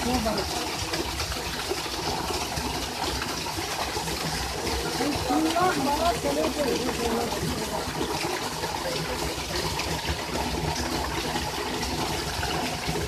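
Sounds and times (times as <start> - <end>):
water gushing and splashing: 0.0 - 13.0.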